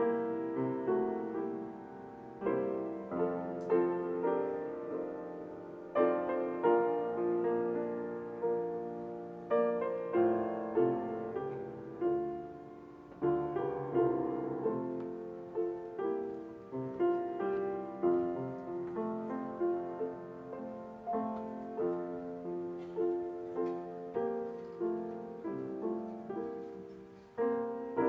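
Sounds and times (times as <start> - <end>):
slow piano piece: 0.0 - 28.0.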